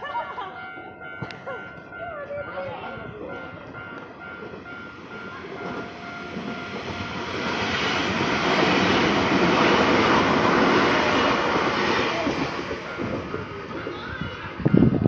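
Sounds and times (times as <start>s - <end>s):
crossing warning bell: 0.0s - 15.0s
train running noise: 0.0s - 15.0s.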